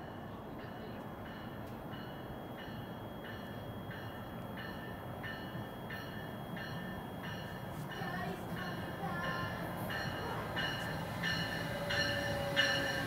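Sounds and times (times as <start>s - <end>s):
high ringing tone: 0.0s - 13.0s
train faint low rumble: 0.0s - 13.0s.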